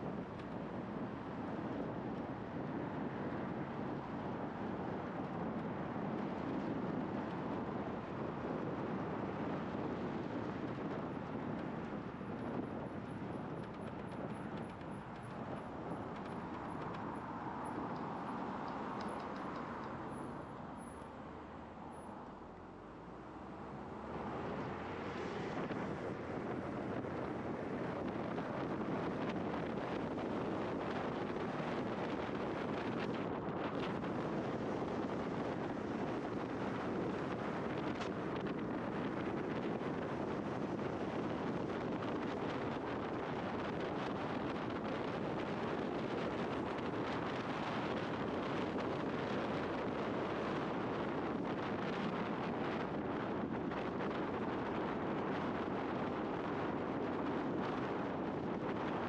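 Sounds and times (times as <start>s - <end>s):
tyre and road noise: 0.0s - 59.0s
wind rushing over microphone: 0.0s - 59.0s.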